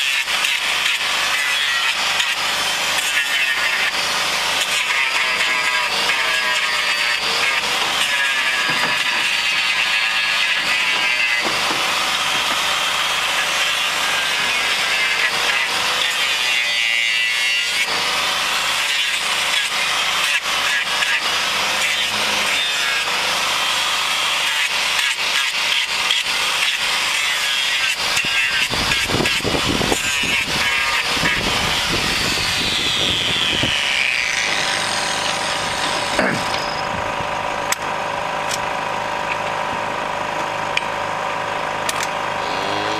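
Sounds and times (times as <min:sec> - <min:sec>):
power grinder whining: 0:00.0 - 0:42.9.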